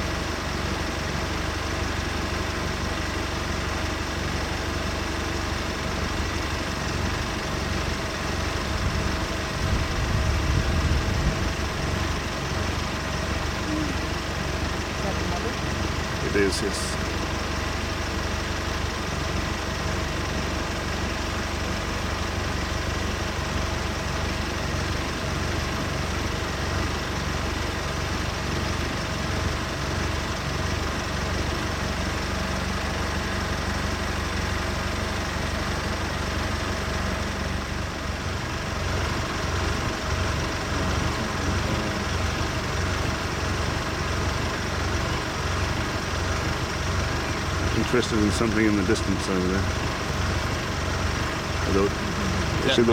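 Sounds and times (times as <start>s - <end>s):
vehicle engine idling: 0.0s - 52.9s.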